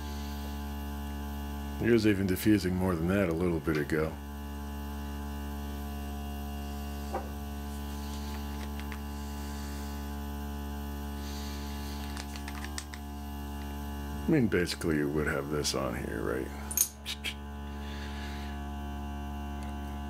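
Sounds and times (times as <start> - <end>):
air pump humming: 0.0 - 20.0.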